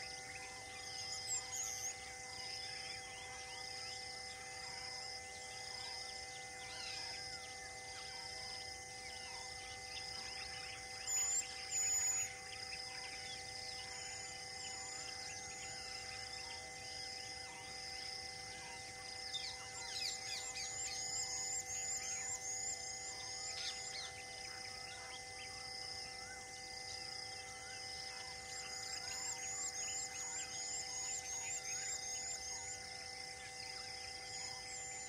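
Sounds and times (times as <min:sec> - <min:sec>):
insect drone: 0:00.0 - 0:35.0.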